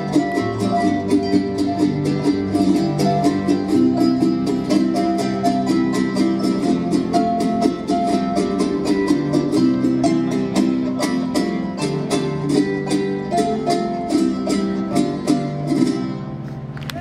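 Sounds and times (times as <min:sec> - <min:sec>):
plucked harp notes: 0:00.0 - 0:17.0
strummed guitar rhythm: 0:00.0 - 0:17.0.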